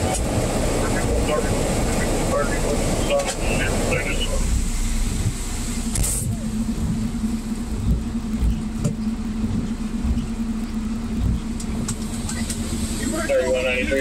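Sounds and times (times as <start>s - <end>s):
steady low hum: 0.0s - 14.0s
traffic on wet road: 0.0s - 14.0s.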